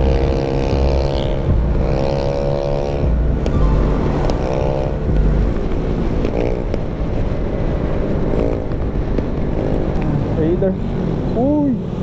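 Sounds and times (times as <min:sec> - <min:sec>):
scooter engine running: 0:00.0 - 0:10.6
wind rush on microphone: 0:00.0 - 0:12.0.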